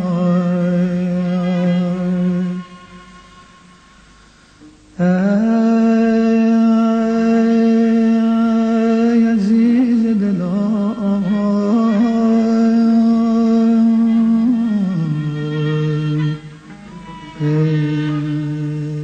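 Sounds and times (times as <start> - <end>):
man singing without words: 0.0 - 2.8, 5.0 - 16.4, 17.4 - 19.0.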